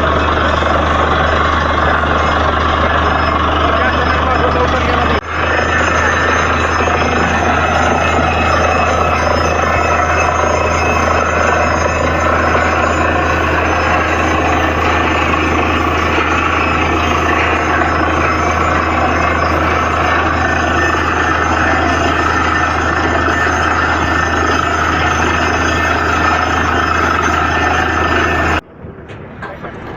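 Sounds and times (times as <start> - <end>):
drilling rig running: 0.0 - 29.9.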